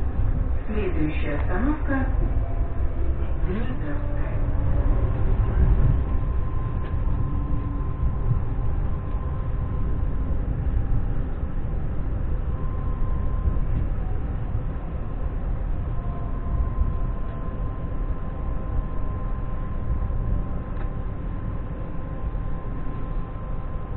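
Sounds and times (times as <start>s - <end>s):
electric train rumbling: 0.0s - 23.9s
faint thin whine: 0.0s - 23.9s.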